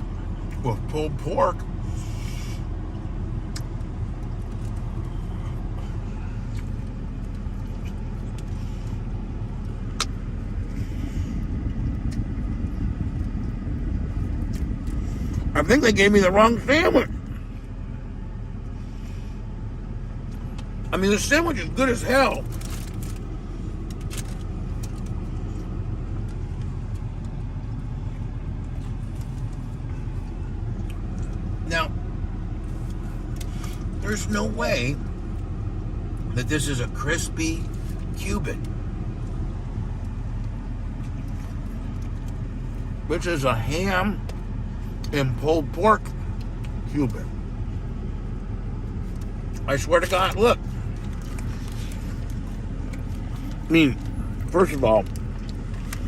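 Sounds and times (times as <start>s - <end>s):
low engine rumble inside cab: 0.0s - 56.0s.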